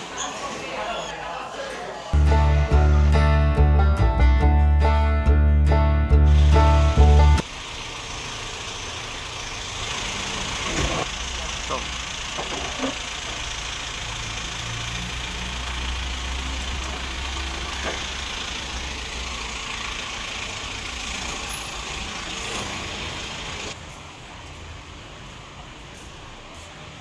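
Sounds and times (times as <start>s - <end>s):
outdoor noise: 0.0s - 27.0s
vehicle engine humming: 2.2s - 27.0s.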